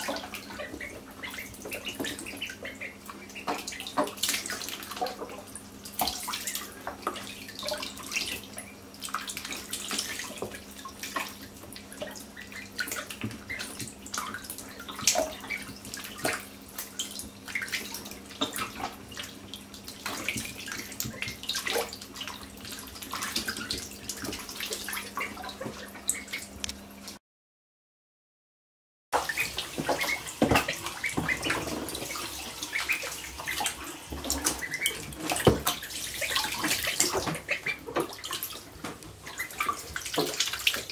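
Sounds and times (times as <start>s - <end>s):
ducklings splashing in water: 0.0s - 27.2s, 29.2s - 40.9s.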